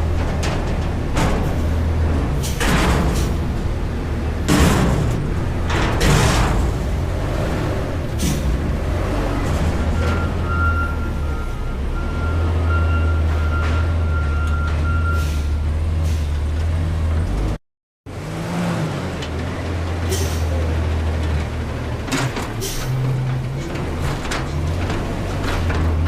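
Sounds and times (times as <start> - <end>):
truck engine humming: 0.0 - 26.0.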